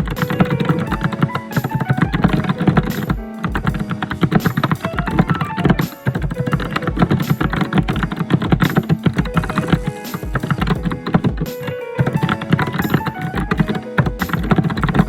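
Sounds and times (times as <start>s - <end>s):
fast typing on keyboard: 0.0s - 15.0s.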